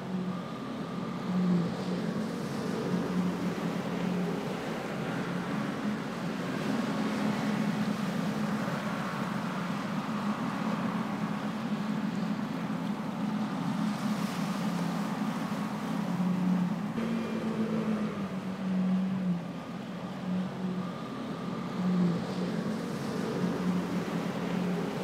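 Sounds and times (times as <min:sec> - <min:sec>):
boat engines droning: 0:00.0 - 0:25.0
choppy water: 0:00.0 - 0:25.0
wind: 0:00.0 - 0:25.0.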